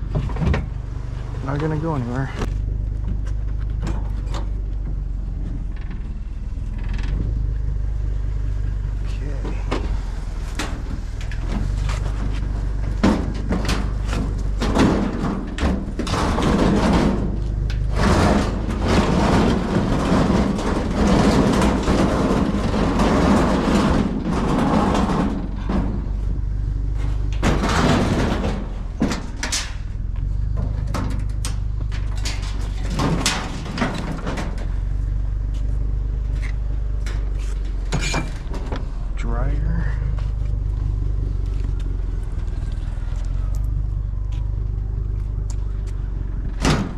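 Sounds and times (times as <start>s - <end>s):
low engine hum: 0.0s - 46.9s
scrap metal knocking and scraping: 0.0s - 46.9s.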